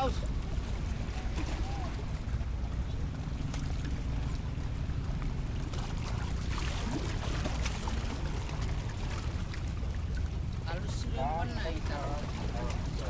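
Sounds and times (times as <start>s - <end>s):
sea water lapping: 0.0s - 13.0s.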